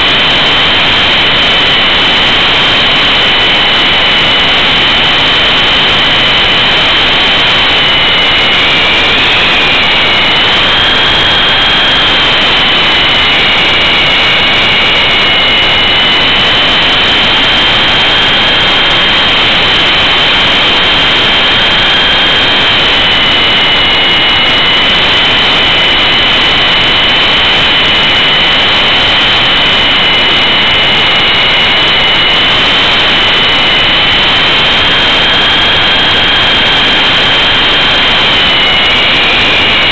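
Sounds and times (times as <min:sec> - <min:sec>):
fainter lower whine: 0:00.0 - 0:39.9
high-pitched motor whine: 0:00.0 - 0:39.9.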